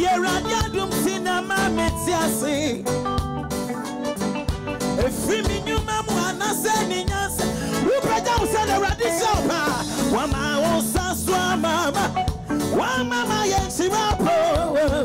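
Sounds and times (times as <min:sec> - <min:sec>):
man singing into a microphone: 0:00.0 - 0:03.0, 0:04.9 - 0:15.0
live band playing gospel song: 0:00.0 - 0:15.0.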